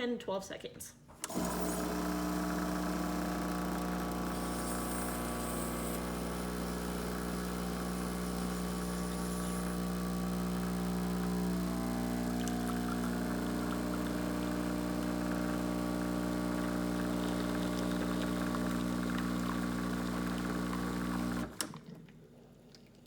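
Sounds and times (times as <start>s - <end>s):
espresso machine buzzing hum: 1.3s - 21.6s
espresso machine hiss: 1.3s - 21.6s.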